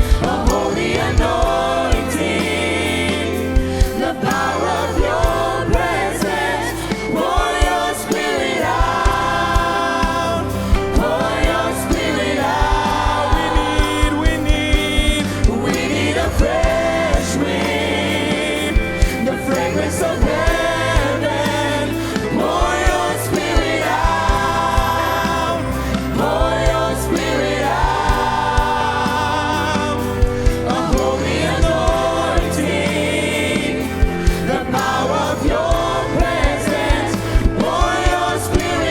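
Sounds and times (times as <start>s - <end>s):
band with bass and drums: 0.0s - 38.9s
choir singing: 0.0s - 38.9s.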